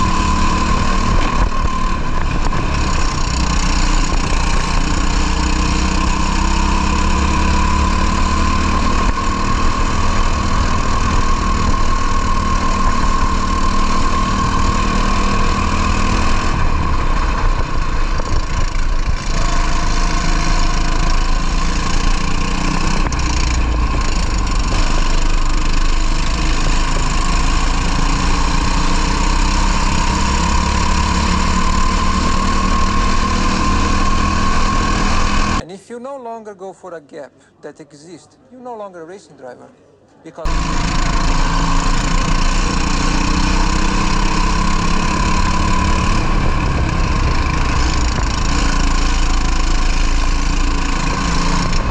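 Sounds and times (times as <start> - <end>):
racing kart engine running hard: 0.0 - 35.6, 40.5 - 51.9.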